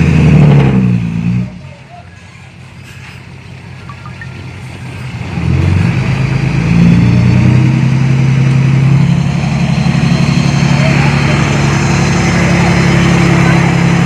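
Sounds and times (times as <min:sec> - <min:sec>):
diesel engine revving: 0:00.0 - 0:01.8, 0:02.4 - 0:14.0.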